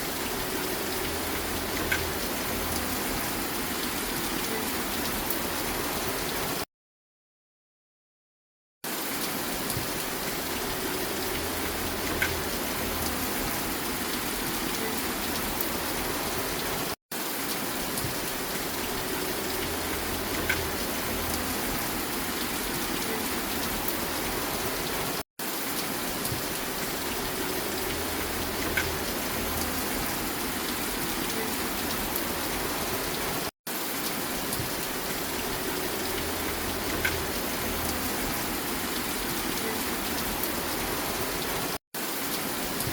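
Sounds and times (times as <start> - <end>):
steady rain falling: 0.0 - 6.6, 8.9 - 42.9.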